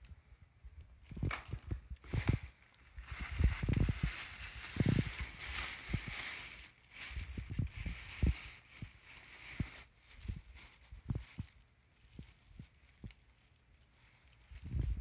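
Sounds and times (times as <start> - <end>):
plastic bag crinkling: 1.0 - 15.0.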